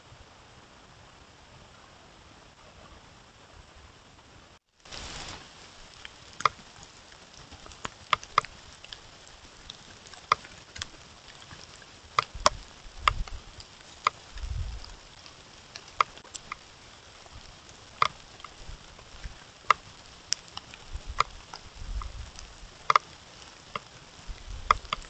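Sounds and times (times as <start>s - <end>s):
hooves snapping twigs: 4.8s - 25.0s.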